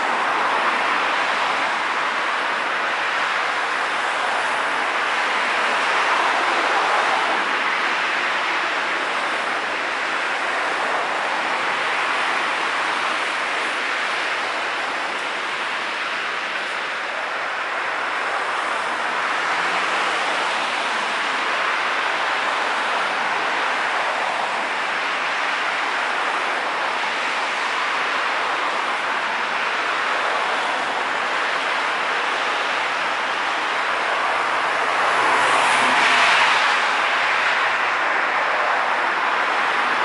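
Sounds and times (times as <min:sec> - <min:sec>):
car engine noise: 0:00.0 - 0:40.0
tyres hissing on wet road: 0:00.0 - 0:40.0.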